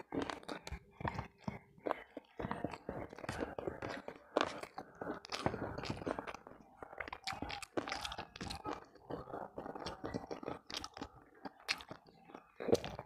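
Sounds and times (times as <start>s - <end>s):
close chewing with crunches: 0.0s - 13.0s.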